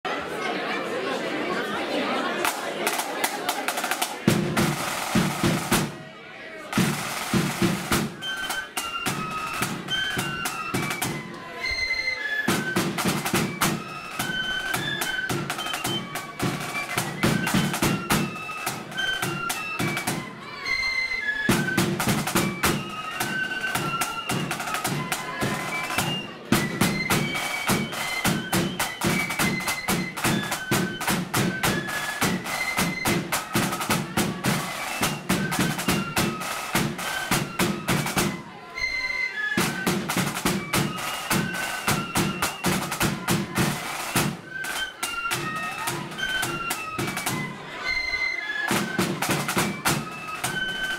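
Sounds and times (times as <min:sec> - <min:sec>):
rapid snare drumming: 0:02.4 - 0:06.0, 0:06.7 - 0:11.3, 0:12.5 - 0:20.4, 0:21.5 - 0:38.4, 0:39.5 - 0:47.6, 0:48.6 - 0:50.9
flute melody: 0:06.9 - 0:50.9.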